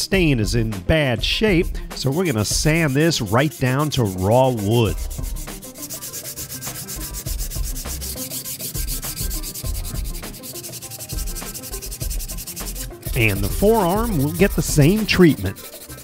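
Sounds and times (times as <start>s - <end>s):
sandpaper rasping on wood: 2.0s - 16.0s.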